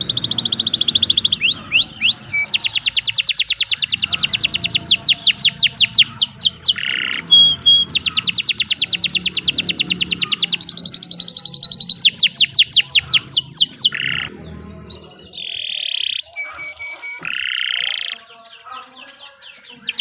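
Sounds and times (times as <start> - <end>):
steady bird whistle: 0.0 - 14.3, 14.9 - 18.2
canary trilling: 0.0 - 20.0.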